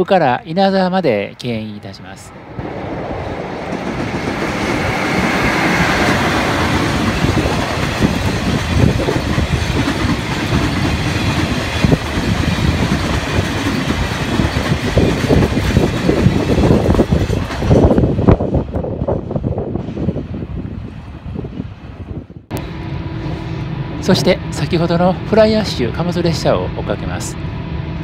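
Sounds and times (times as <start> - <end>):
electric locomotive passing: 1.9 - 28.0.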